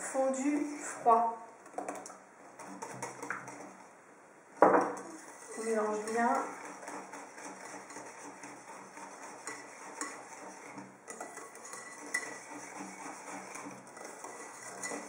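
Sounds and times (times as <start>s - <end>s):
whisk beating batter in bowl: 1.6s - 4.0s, 4.8s - 15.0s.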